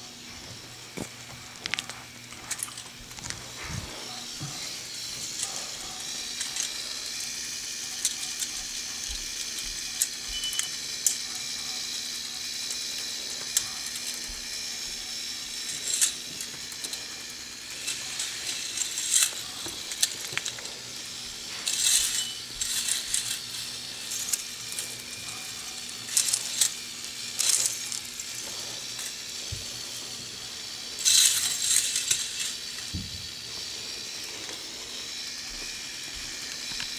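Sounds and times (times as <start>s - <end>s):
steady whir: 0.0s - 36.9s
toy coaster cars rattling on track: 0.8s - 36.9s.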